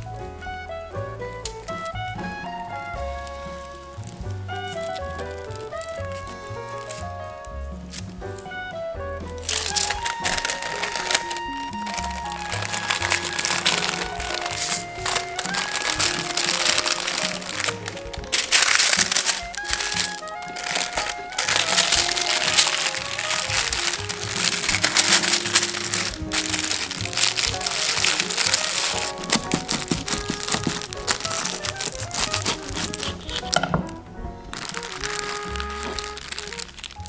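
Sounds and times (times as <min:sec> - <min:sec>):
background music with melody: 0:00.0 - 0:37.0
baking paper crinkling: 0:01.1 - 0:37.0.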